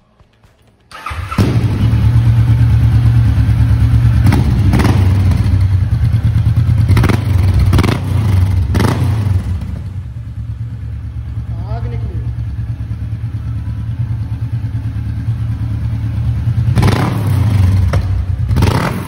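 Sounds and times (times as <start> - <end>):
motorcycle engine idling: 0.9 - 18.8.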